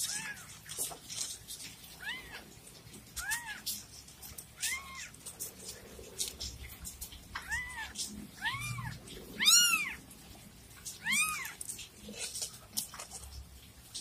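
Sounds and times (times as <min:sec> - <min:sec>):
kittens mewing: 0:00.0 - 0:00.6, 0:01.9 - 0:12.6.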